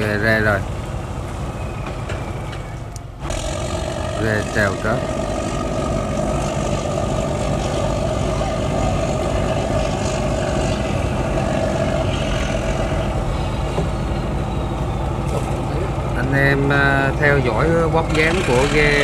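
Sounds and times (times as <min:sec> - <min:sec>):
marine diesel engine running: 0:00.0 - 0:19.0.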